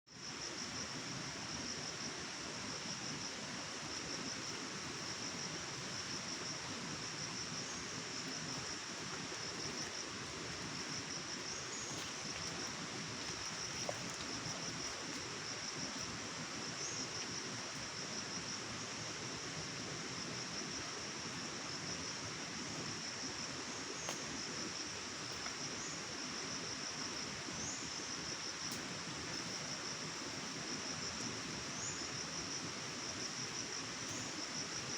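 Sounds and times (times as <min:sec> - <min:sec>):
insects trilling: 0:00.1 - 0:34.9
stream water flowing: 0:00.6 - 0:34.9.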